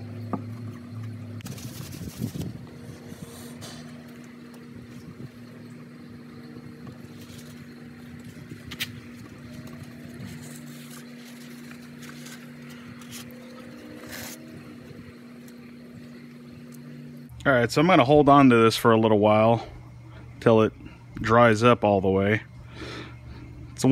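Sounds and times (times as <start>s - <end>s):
low machine hum: 0.0s - 23.9s.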